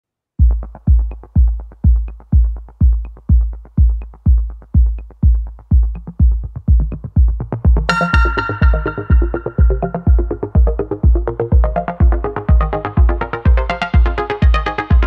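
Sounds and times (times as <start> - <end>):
electronic music: 0.4 - 15.0
heavy kick drum: 0.4 - 15.0.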